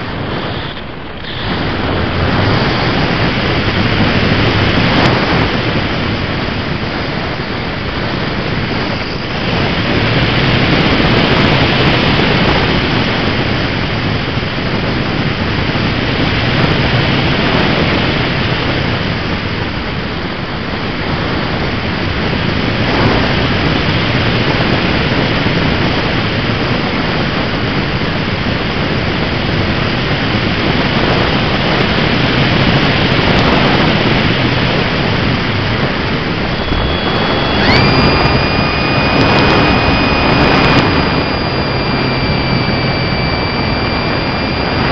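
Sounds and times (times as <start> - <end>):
air rush and glider motor: 0.0 - 44.9.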